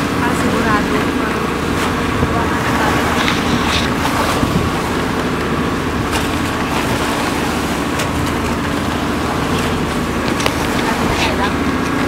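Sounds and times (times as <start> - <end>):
boat engine running: 0.0 - 12.0
water splashing along hull: 0.0 - 12.0.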